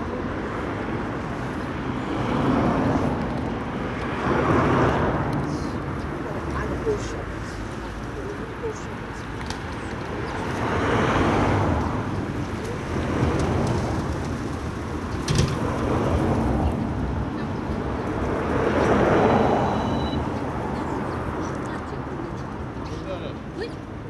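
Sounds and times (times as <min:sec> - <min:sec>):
vehicles passing by: 0:00.0 - 0:24.0.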